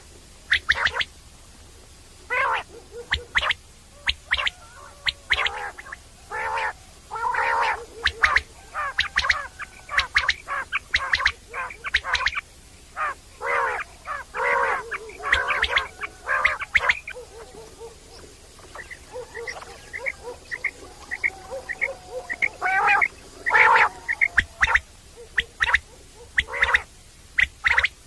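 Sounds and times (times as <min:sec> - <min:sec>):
quail calling: 0:00.4 - 0:01.2, 0:02.2 - 0:28.0.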